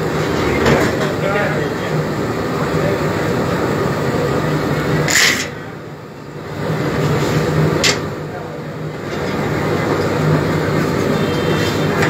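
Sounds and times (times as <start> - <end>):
machine motor humming and rumbling: 0.0 - 12.0.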